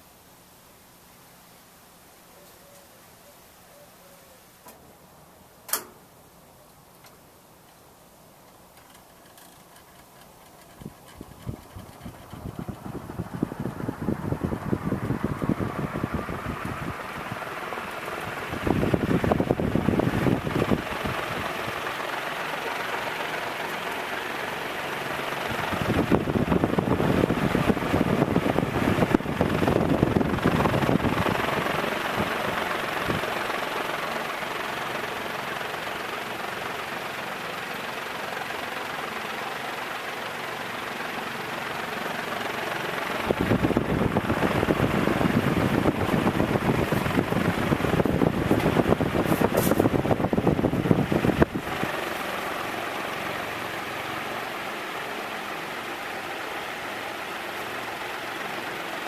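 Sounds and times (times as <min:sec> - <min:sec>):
ceiling fan air rush: 0:00.0 - 0:59.0
fan motor hum: 0:00.0 - 0:59.0.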